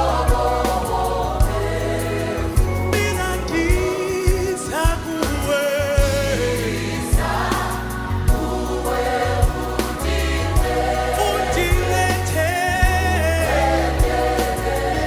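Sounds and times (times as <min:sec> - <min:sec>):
choir singing gospel music: 0:00.0 - 0:15.0.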